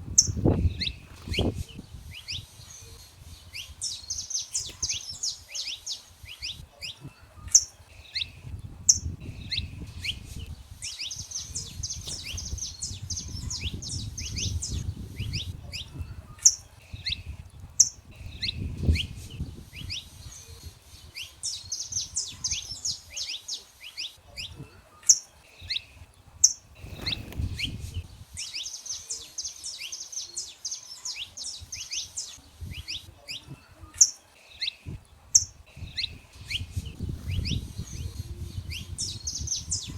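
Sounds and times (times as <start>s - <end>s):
finches singing: 0.1s - 39.9s.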